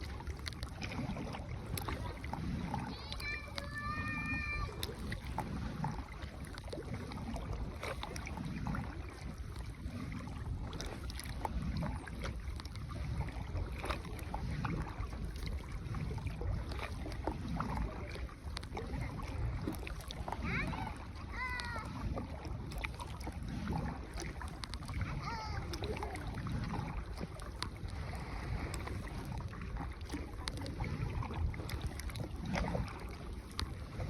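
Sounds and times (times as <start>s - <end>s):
paddle strokes swishing water: 0.0s - 34.0s
wind on microphone: 0.0s - 34.0s.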